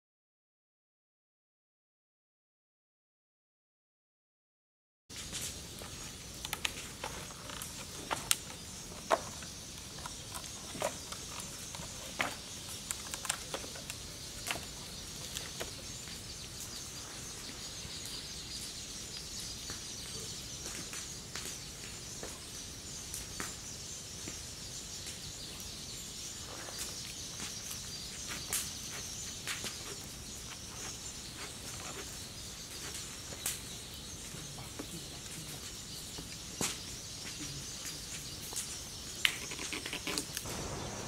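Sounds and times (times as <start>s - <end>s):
insects chirring: 5.1s - 41.0s.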